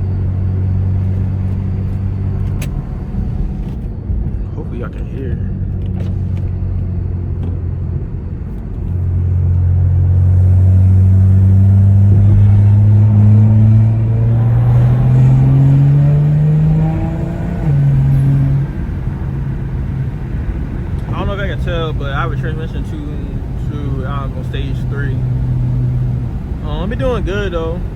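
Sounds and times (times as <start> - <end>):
car engine accelerating hard: 0.0 - 27.9.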